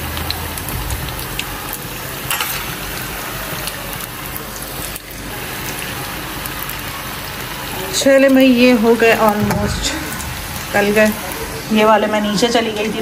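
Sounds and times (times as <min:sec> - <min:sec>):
oil crackles and pops: 0:00.0 - 0:11.8
hot oil sizzling: 0:00.0 - 0:13.0.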